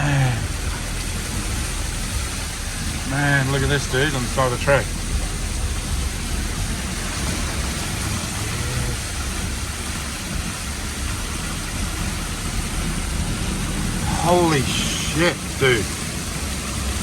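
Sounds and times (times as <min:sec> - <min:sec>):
constant hiss: 0:00.0 - 0:17.0
vehicle engine running: 0:00.0 - 0:17.0.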